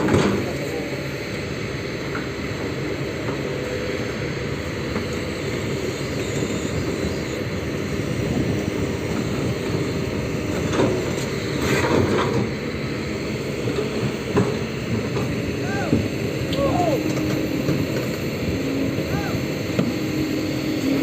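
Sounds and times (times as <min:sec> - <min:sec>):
excavator engine rumbling: 0:00.0 - 0:21.0.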